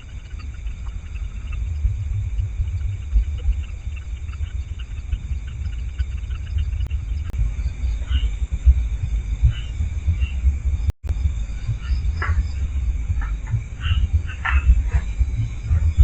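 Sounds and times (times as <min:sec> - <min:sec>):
crickets and insects chirping: 0:00.0 - 0:16.0
low rumble on microphone: 0:00.0 - 0:16.0.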